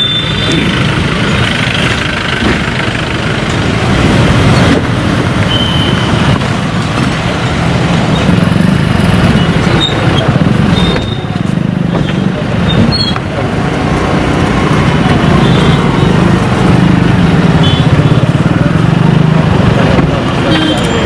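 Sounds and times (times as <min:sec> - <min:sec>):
tyres on road: 0:00.0 - 0:21.0
vehicle engines: 0:00.0 - 0:21.0.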